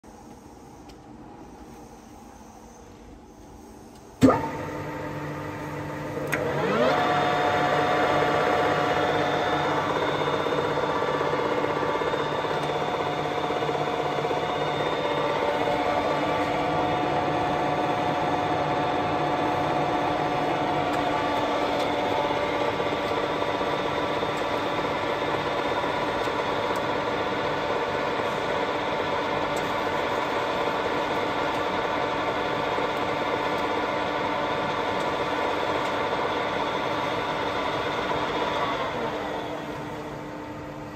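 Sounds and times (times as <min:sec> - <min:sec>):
lathe spindle humming and whining: 0:00.1 - 0:40.9.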